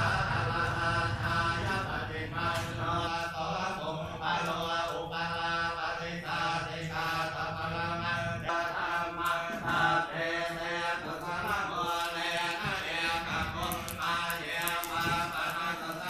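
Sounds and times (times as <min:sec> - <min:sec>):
voices chanting on held tones: 0:00.0 - 0:16.0.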